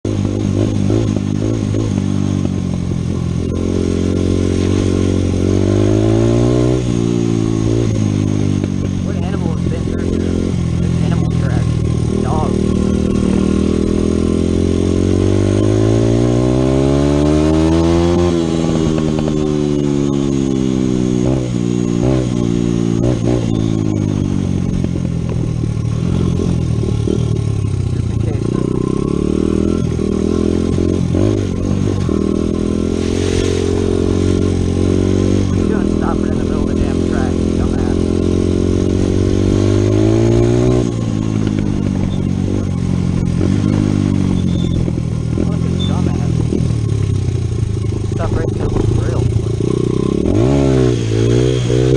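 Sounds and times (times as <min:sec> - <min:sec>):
dirt bike engine accelerating: 0:00.0 - 0:51.9.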